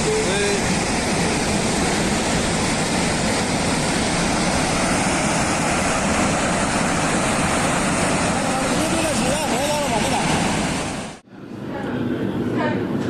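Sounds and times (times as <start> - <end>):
floodwater rushing roar: 0.0 - 11.2.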